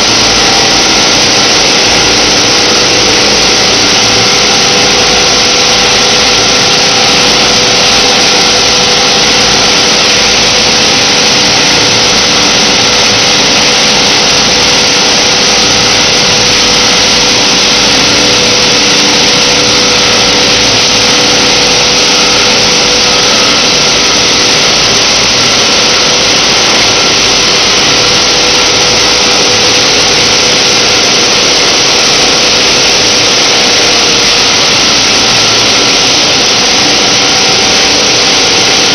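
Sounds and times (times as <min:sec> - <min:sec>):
humming tones: 0:00.0 - 0:38.9
machinery din: 0:00.0 - 0:38.9.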